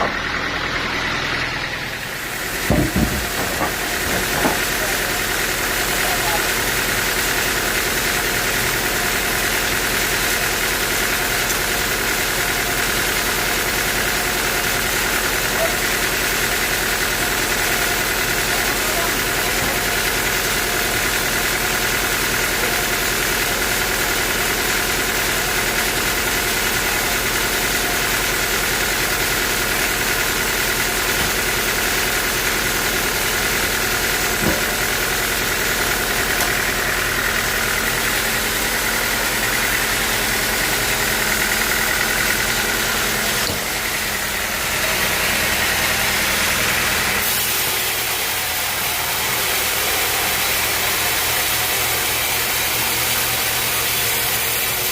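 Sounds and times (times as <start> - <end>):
sawmill mechanical drone: 0.0 - 54.9.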